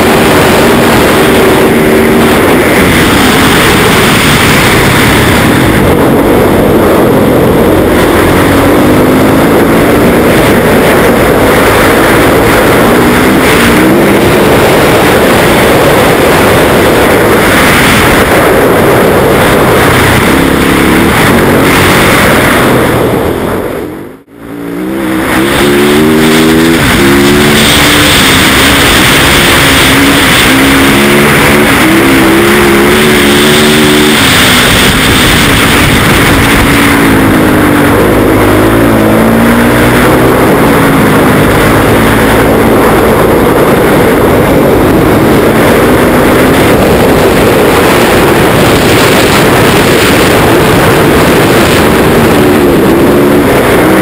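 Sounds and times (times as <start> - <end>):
heavy rushing noise: 0.0 - 54.0
motorcycle engine accelerating: 0.0 - 54.0.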